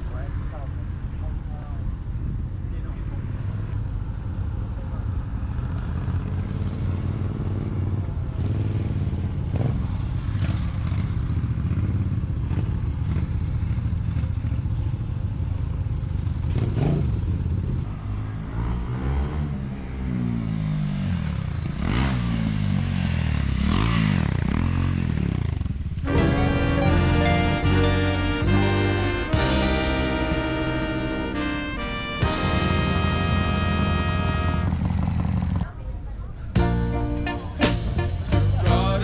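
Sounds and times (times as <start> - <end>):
motorcycle engines revving: 3.4 - 35.7.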